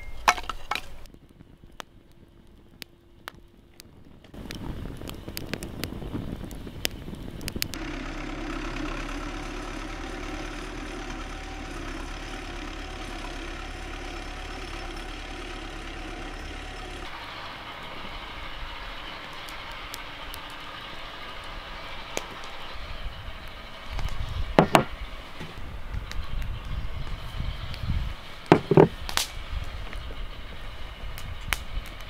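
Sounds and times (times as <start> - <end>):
campfire crackling: 0.0 - 32.0
tractor diesel engine running: 0.0 - 32.0.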